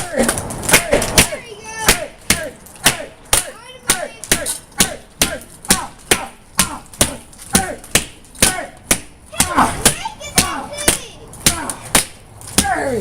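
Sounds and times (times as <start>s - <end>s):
glass cracking: 0.0s - 13.0s
nunchucks whacking glass window: 0.0s - 13.0s.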